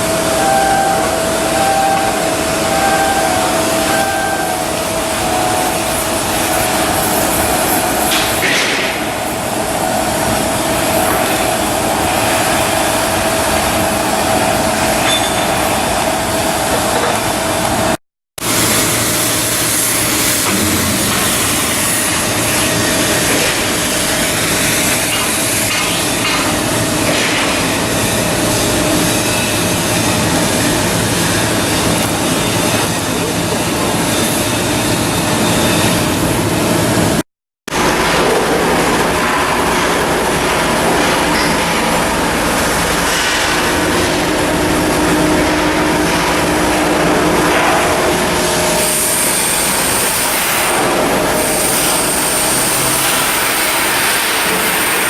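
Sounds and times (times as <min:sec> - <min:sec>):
shipyard machinery noise: 0:00.0 - 0:55.0.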